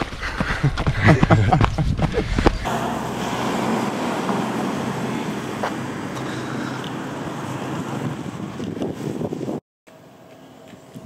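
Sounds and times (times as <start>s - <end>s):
constant rushing hum: 0.0s - 11.0s.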